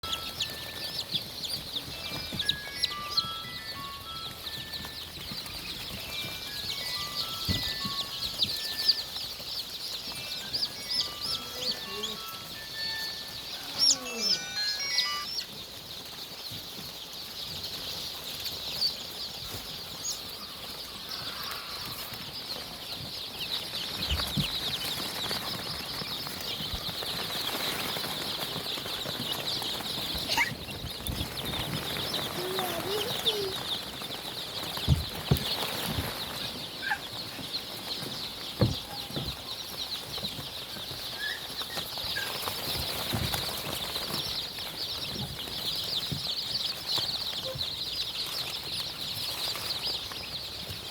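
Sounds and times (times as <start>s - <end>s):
chickens clucking: 0.0s - 50.9s
chicks peeping and chattering: 0.0s - 50.9s.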